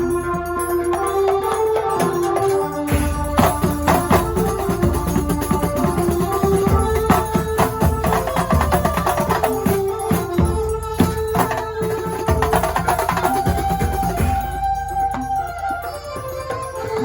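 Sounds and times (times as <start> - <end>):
hand drums and percussion: 0.0 - 17.0
held melodic line: 0.0 - 17.0.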